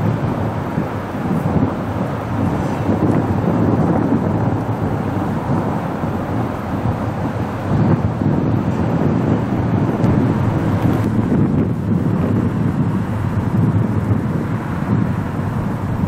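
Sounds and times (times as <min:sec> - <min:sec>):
diesel train rumbling: 0:00.0 - 0:16.0
wind buffeting microphone: 0:00.0 - 0:16.0.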